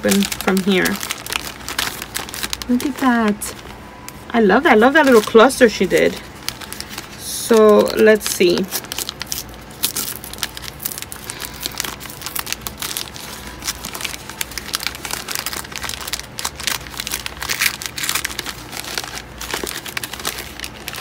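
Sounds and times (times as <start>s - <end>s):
paper bag crinkling: 0.0s - 21.0s.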